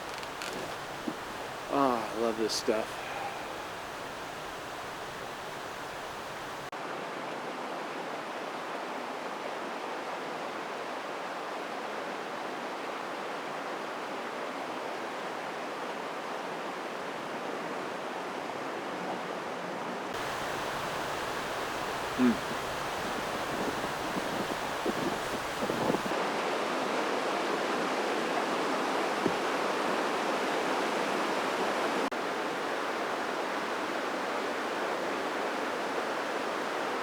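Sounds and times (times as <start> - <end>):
mountain stream flowing: 0.0 - 37.0.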